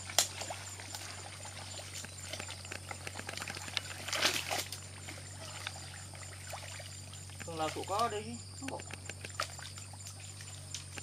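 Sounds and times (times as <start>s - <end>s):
mud and water sloshing: 0.0s - 11.0s
water splashing: 0.0s - 11.0s.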